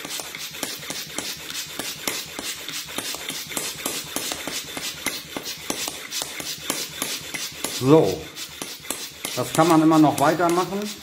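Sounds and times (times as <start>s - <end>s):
hand pump clicking and puffing: 0.0s - 11.0s.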